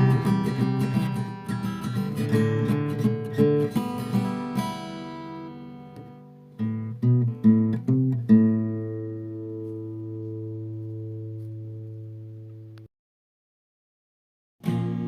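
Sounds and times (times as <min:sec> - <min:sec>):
acoustic guitar strumming: 0:00.0 - 0:12.5, 0:14.6 - 0:15.0.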